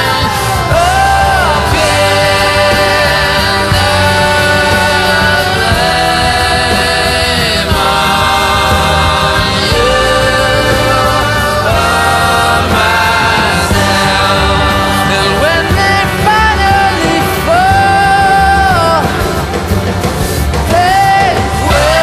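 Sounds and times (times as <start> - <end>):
choir singing with accompaniment: 0.0 - 22.0.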